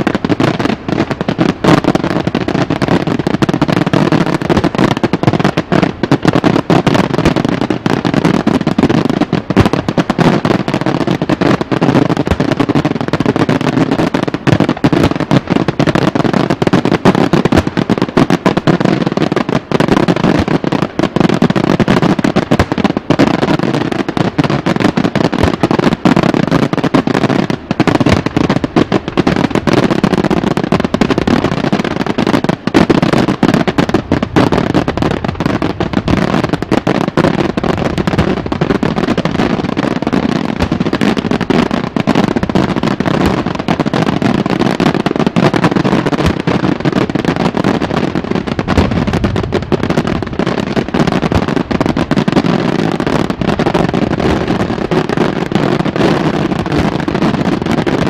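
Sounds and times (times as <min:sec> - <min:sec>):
fireworks bangs and cracks: 0:00.0 - 0:58.0.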